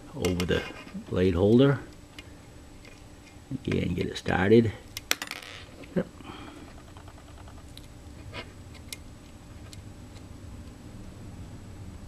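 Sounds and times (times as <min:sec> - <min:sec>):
low steady room hum: 0:00.0 - 0:12.0.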